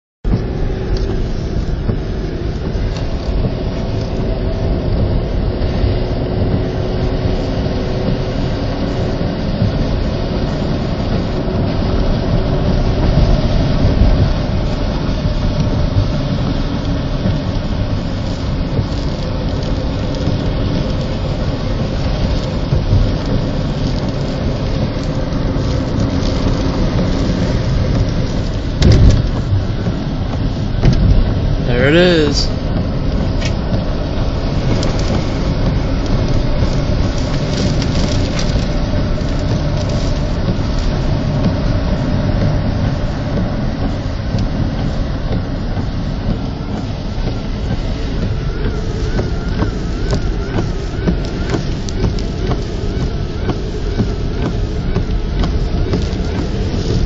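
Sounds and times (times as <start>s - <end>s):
road wind and rain noise: 0.0s - 57.0s.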